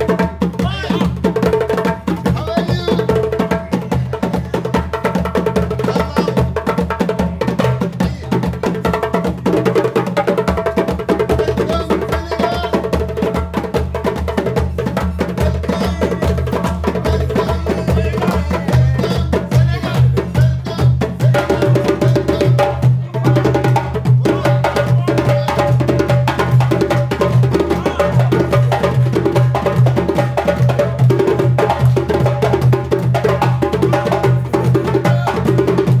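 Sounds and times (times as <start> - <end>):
djembe hand drums: 0.0 - 36.0.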